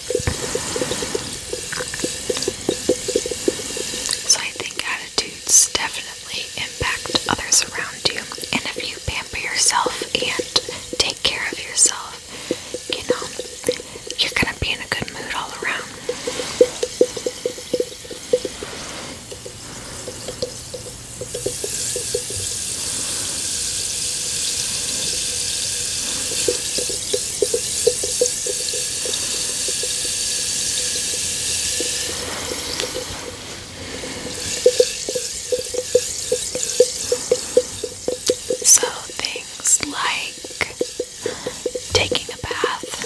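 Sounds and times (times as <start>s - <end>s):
bubbly pops and drips: 0.0s - 43.0s
water rushing hiss: 0.0s - 43.0s.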